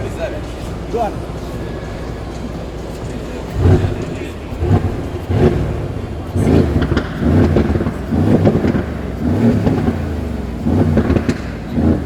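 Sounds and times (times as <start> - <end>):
car engine revving in blips: 0.0 - 12.0
exhaust crackles and pops: 0.2 - 12.0.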